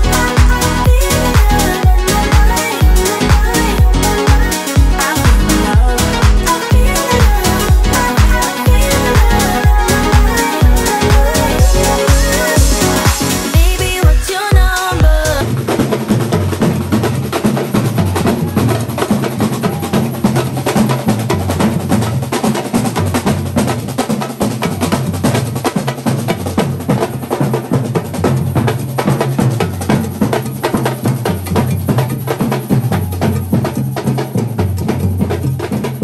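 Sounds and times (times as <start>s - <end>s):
marching drums beating: 0.0s - 36.0s
snare drums: 0.0s - 36.0s.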